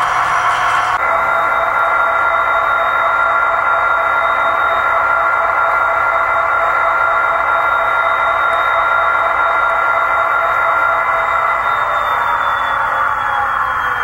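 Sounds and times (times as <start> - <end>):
diesel locomotive engine running: 0.0 - 14.0
high whine: 0.0 - 14.0.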